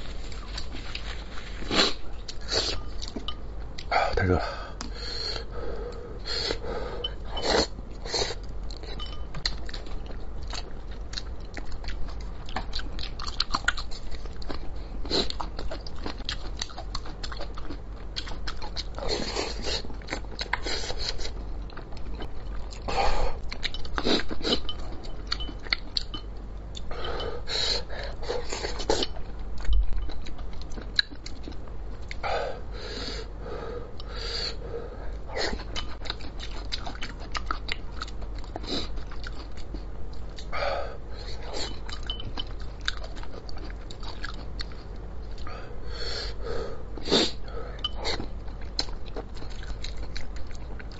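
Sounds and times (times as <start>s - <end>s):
man chewing with wet clicks: 2.0s - 4.0s, 4.8s - 32.3s, 33.9s - 40.6s, 41.2s - 45.5s, 46.9s - 50.9s.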